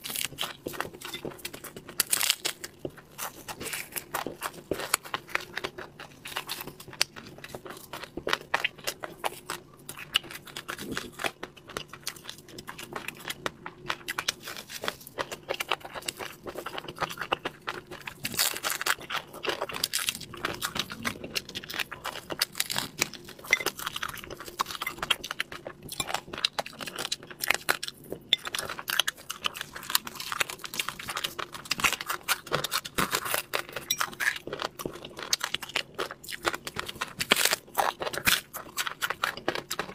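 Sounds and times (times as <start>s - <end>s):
crunching and chewing fish: 0.0s - 39.9s.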